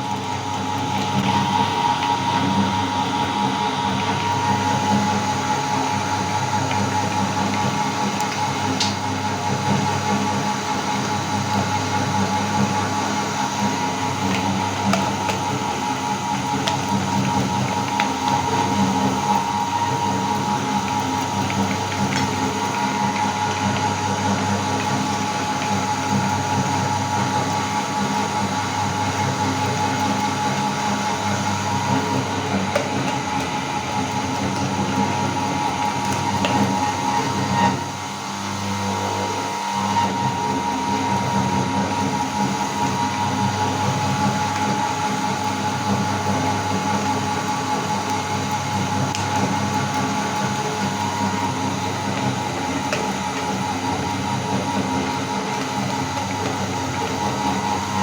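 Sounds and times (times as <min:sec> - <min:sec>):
electric meat grinder motor hum: 0:00.0 - 0:58.0.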